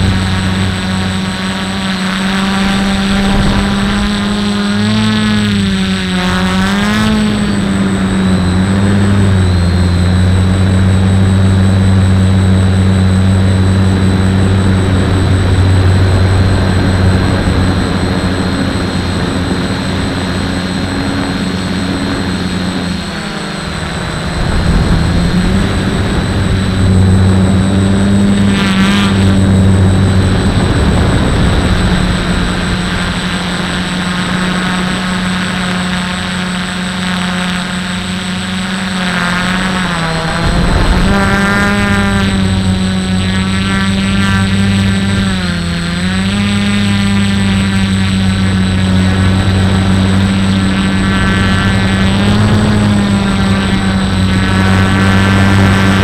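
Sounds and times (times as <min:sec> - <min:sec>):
drone propellers humming: 0:00.0 - 0:56.0
faint high whine: 0:00.0 - 0:56.0.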